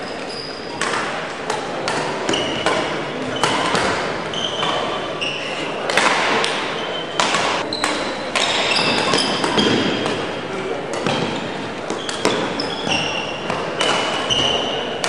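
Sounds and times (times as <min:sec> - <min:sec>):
shoes squeaking on court floor: 0:00.0 - 0:10.2, 0:11.0 - 0:15.0
racket striking shuttlecock: 0:00.7 - 0:05.0, 0:05.8 - 0:15.0.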